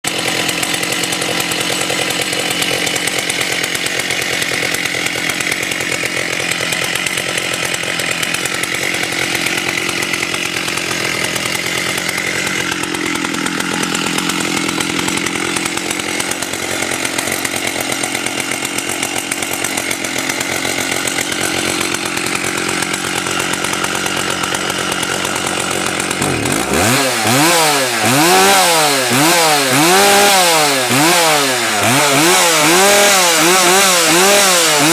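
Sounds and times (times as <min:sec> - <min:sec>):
chainsaw running at high speed: 0:00.0 - 0:34.9.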